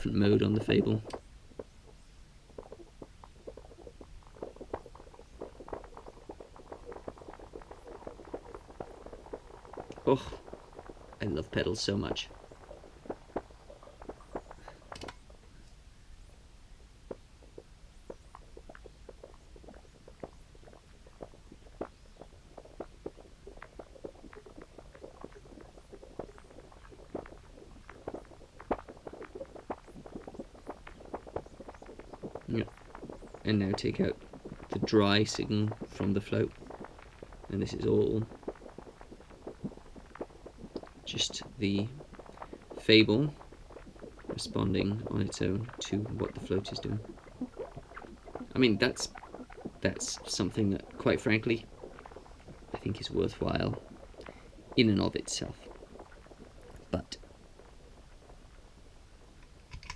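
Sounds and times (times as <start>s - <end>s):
short pops and crackles: 0.0s - 59.9s.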